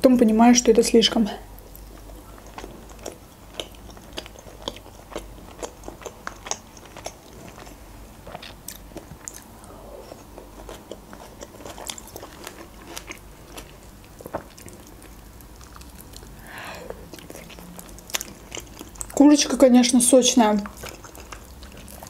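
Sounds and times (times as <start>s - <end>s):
wet chewing and mouth smacks: 1.6s - 19.2s, 20.6s - 22.0s.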